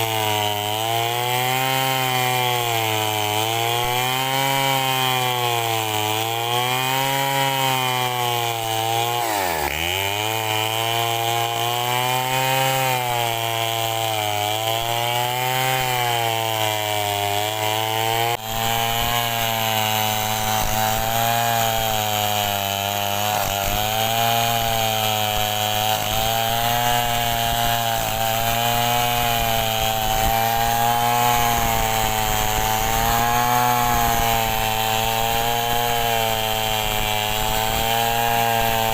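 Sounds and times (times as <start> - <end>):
chainsaw cutting wood under load: 0.0 - 38.9.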